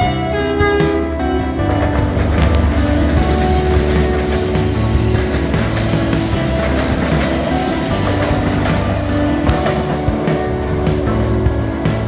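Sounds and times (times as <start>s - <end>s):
deep low end: 0.0s - 12.0s
music with held notes: 0.0s - 12.0s.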